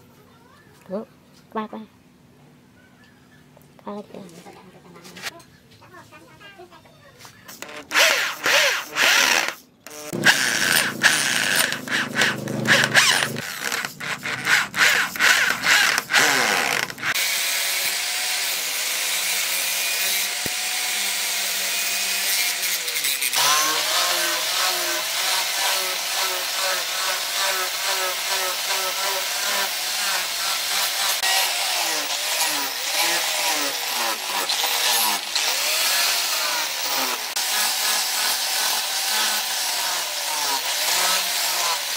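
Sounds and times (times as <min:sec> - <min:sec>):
angle grinder sanding: 0:07.5 - 0:41.9
electric drill boring: 0:07.6 - 0:41.9.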